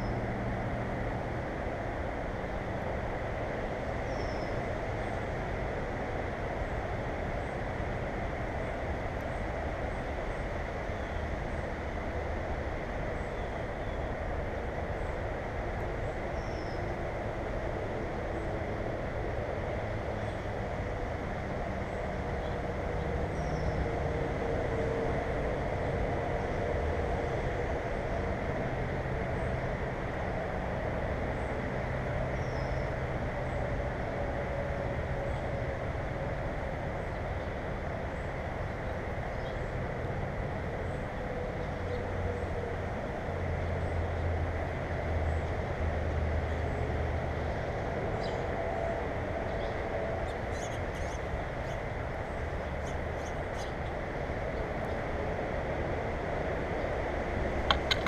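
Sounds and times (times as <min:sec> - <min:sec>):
low rumble with faint hum: 0:00.0 - 0:58.0.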